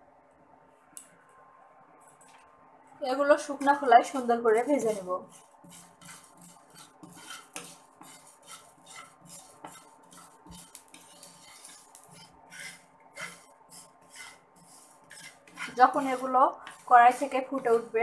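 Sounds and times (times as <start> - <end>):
wooden spatula scraping seeds in wok: 3.4 - 18.0.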